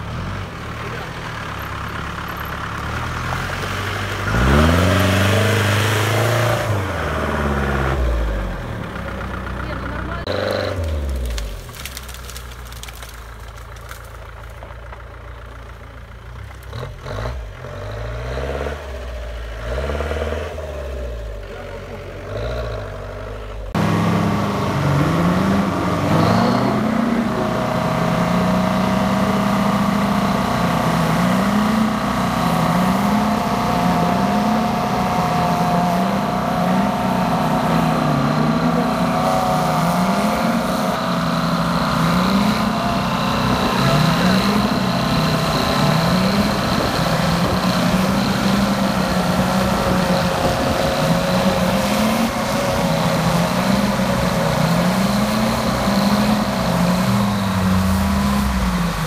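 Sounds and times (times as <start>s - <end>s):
engines at high revs under load: 0.0s - 12.1s, 16.6s - 59.0s
off-road engine revving: 0.0s - 59.0s.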